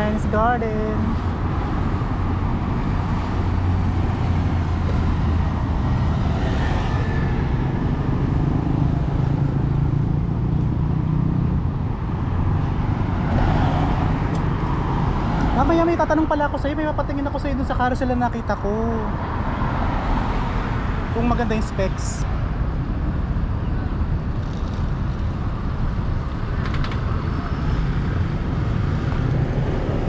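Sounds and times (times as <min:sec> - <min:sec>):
constant traffic rumble: 0:00.0 - 0:30.0
vehicle engines humming: 0:00.0 - 0:30.0.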